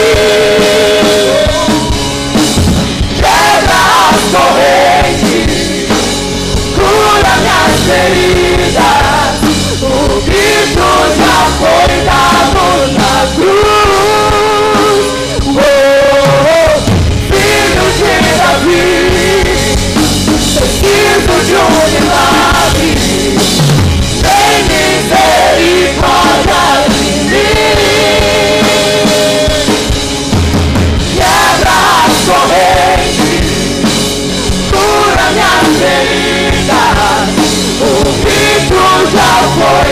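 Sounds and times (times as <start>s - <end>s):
backing singers: 0.0s - 30.3s, 31.0s - 39.9s
drum kit: 0.0s - 39.9s
keyboard playing: 0.0s - 39.9s
woman singing lead: 3.1s - 30.0s, 31.1s - 33.9s, 34.6s - 39.9s.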